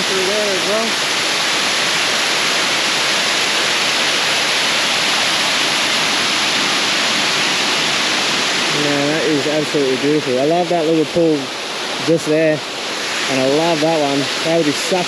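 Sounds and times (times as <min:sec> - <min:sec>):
river rapid rushing water: 0:00.0 - 0:15.0.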